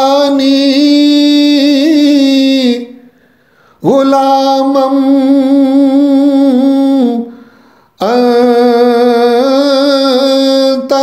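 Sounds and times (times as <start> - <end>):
man chanting unaccompanied: 0.0 - 3.1, 3.8 - 7.4, 8.0 - 11.0.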